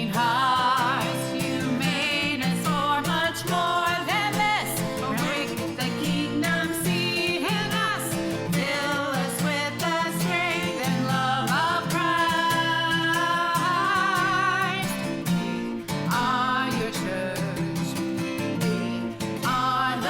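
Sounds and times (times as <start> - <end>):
acoustic guitar and band: 0.0 - 20.0.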